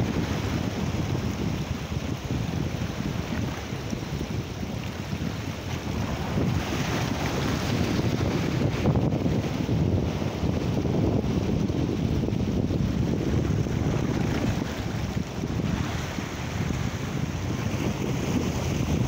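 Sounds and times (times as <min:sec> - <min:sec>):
waves breaking on rocky shore: 0:00.0 - 0:19.0
wind buffeting microphone: 0:00.0 - 0:19.0.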